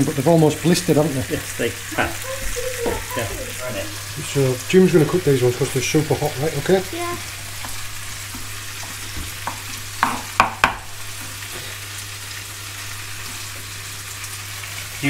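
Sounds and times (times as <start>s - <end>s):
onion sizzling in a pan: 0.0s - 15.0s.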